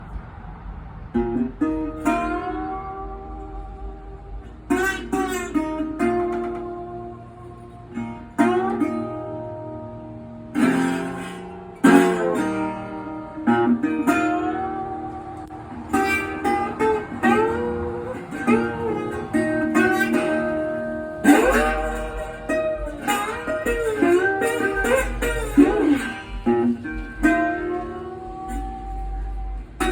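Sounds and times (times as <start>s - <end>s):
resonator guitar playing slow blues: 0.0s - 29.9s.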